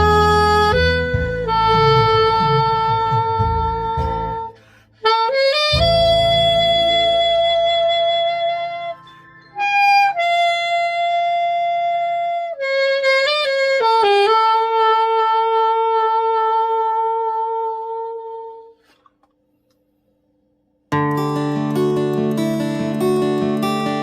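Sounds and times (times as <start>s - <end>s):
soft backing track: 0.0s - 18.6s, 20.9s - 24.0s
fipple wind instrument melody: 0.0s - 18.8s, 21.0s - 24.0s.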